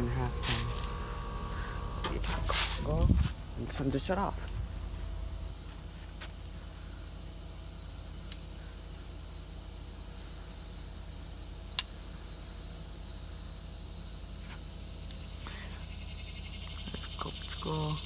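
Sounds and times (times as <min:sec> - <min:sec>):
heat pump low hum: 0:00.0 - 0:18.0.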